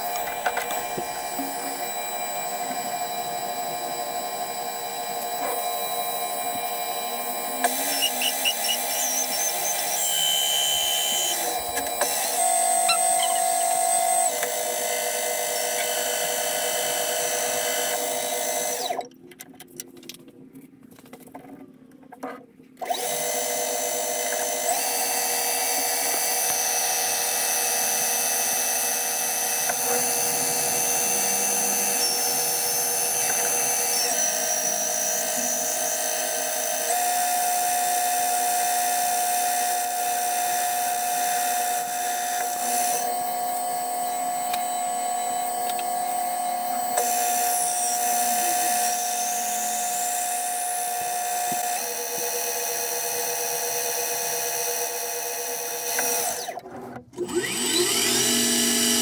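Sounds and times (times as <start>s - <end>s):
metal lathe whining: 0.0s - 19.1s, 22.8s - 56.6s, 57.2s - 59.0s.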